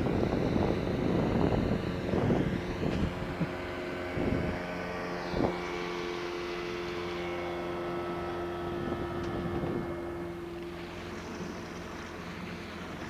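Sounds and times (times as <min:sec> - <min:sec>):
outboard motor running: 0:00.0 - 0:13.0
water rushing along hull: 0:00.0 - 0:13.0.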